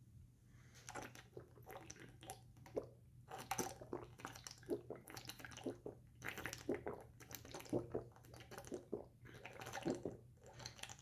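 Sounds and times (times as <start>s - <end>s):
person gulping water: 0.8s - 11.0s.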